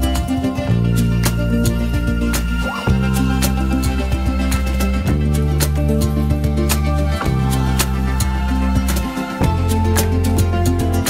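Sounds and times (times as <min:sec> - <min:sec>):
background music with bass and chords: 0:00.0 - 0:11.0.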